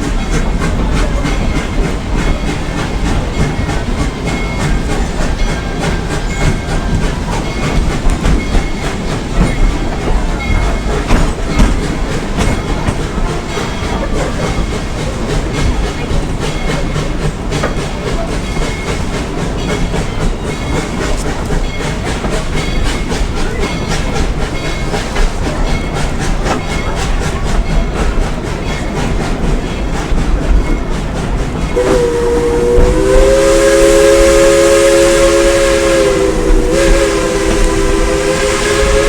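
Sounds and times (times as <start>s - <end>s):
wheels clicking over rail joints: 0.0s - 33.2s
train coaches rumbling on track: 0.0s - 39.0s.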